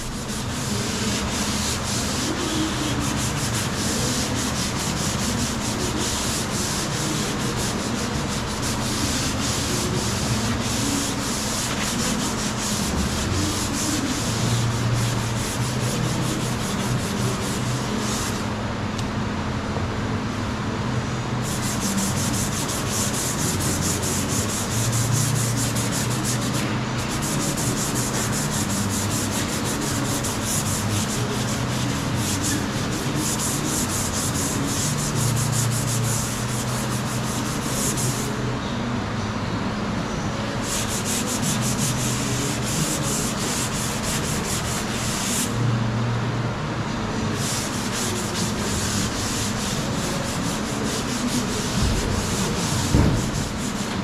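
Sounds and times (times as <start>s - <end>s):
sanding body filler: 0.0s - 18.5s, 21.4s - 38.4s, 40.6s - 45.6s, 47.2s - 54.0s.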